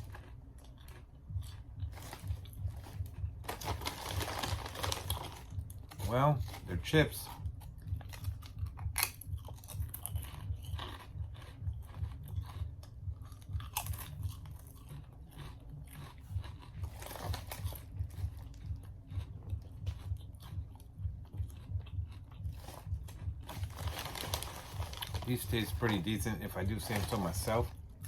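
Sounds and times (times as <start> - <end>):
sharp crunches of chips: 0.0 - 27.8
person chewing potato chips: 0.0 - 28.0.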